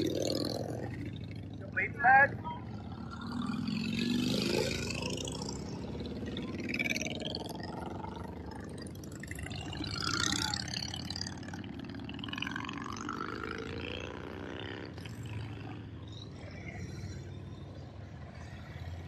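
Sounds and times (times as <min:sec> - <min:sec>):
motorcycles riding past: 0:00.0 - 0:19.0.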